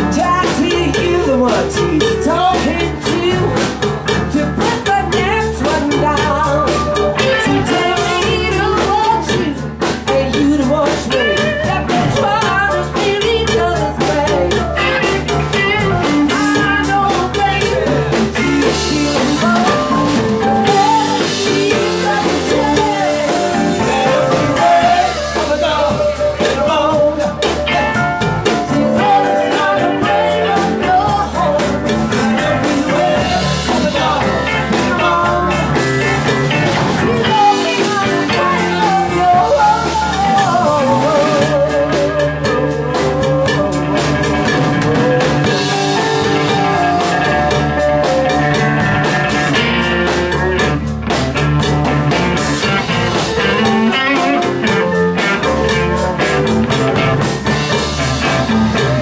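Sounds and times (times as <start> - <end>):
person singing: 0.0 - 50.7
blues rock band playing live: 0.0 - 59.0.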